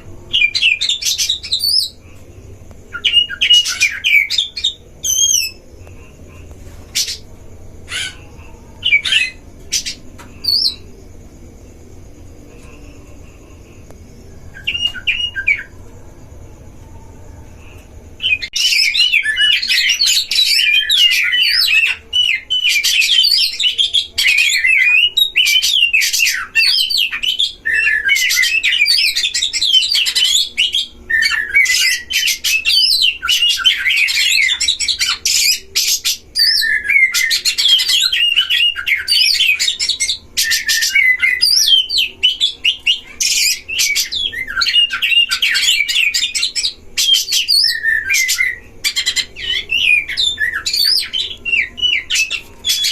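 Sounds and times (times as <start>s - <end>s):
birds singing whistled phrases: 0.0s - 2.0s, 2.9s - 6.0s, 6.8s - 11.0s, 14.5s - 15.9s, 17.7s - 52.9s.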